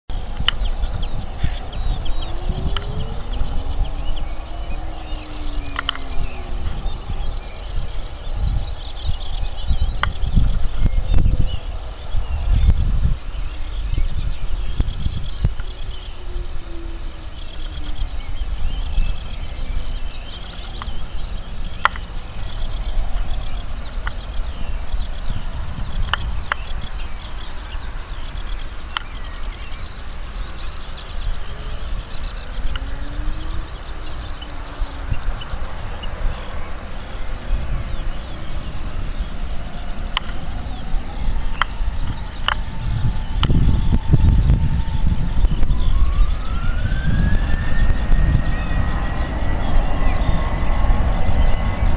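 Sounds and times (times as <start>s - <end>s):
birds chirping: 0.1s - 51.9s
distant jet engines rumbling: 0.1s - 51.9s
wind on microphone: 0.1s - 51.9s.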